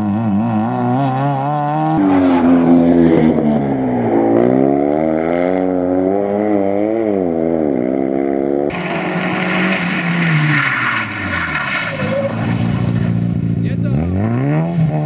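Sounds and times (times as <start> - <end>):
rally car approaching and revving: 0.0 - 15.0
rally car engine revving hard: 0.0 - 15.0.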